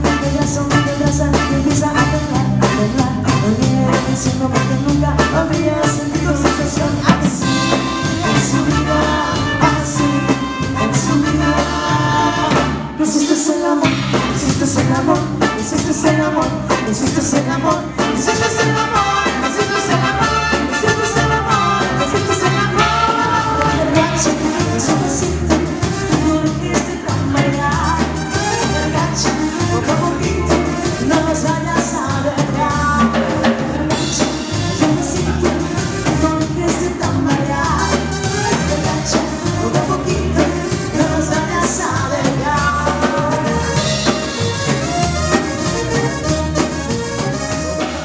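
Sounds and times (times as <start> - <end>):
person singing: 0.0 - 46.2
band playing dance music: 0.0 - 48.0
drum kit beat: 0.0 - 48.0.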